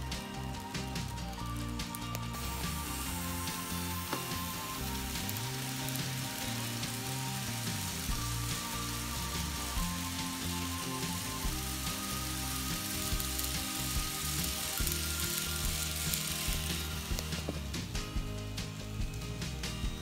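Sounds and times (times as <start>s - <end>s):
model train wheels hissing on rails: 0.0s - 19.7s
background music: 0.0s - 20.0s.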